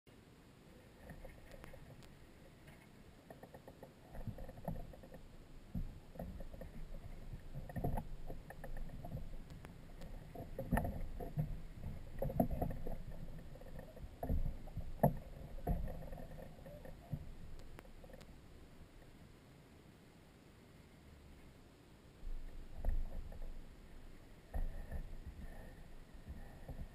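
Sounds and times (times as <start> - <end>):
muffled knocks and rustles: 1.0 - 18.3, 22.2 - 26.9.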